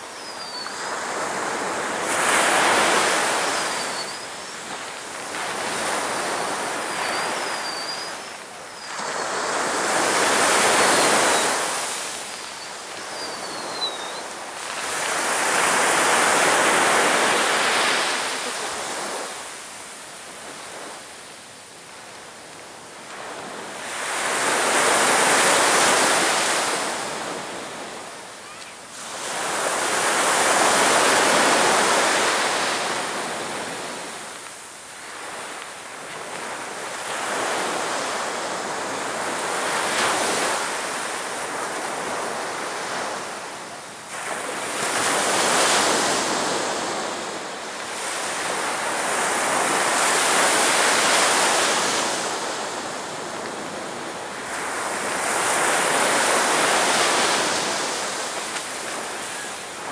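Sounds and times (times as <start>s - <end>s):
surf breaking on a beach: 0.7s - 21.3s, 21.9s - 59.9s.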